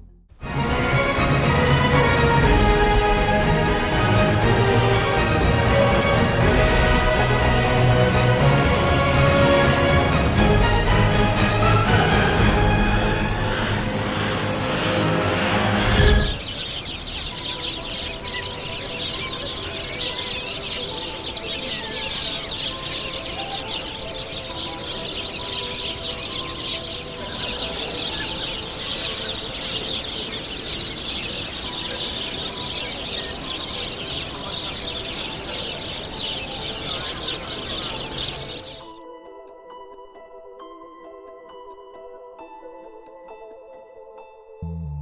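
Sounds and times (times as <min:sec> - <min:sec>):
many small birds chirping: 0:01.0 - 0:39.0.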